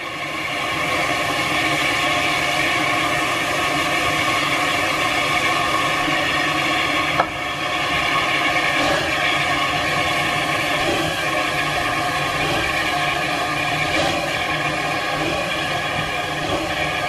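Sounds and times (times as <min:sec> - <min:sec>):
train engine droning: 0:00.0 - 0:17.0.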